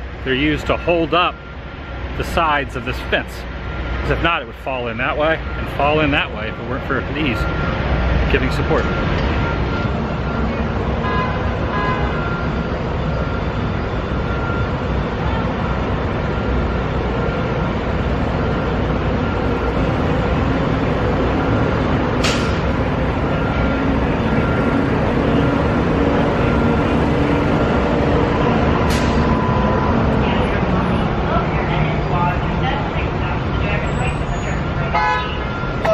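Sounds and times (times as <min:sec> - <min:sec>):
tram engine and road noise: 0:00.0 - 0:35.9.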